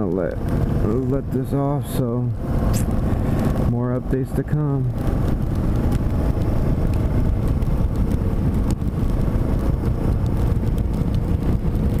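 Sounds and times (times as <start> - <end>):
motorcycle engine rumble: 0.0 - 12.0
wind noise on microphone: 0.0 - 12.0.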